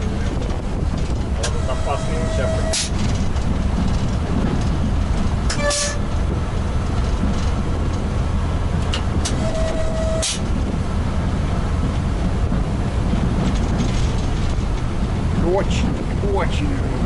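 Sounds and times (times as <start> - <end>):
electric locomotive rumble: 0.0 - 17.0.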